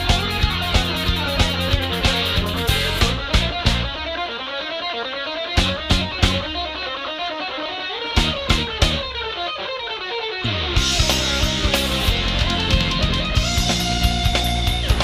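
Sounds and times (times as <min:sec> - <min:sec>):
full rock band playing: 0:00.0 - 0:15.0
rock guitar line: 0:00.0 - 0:15.0.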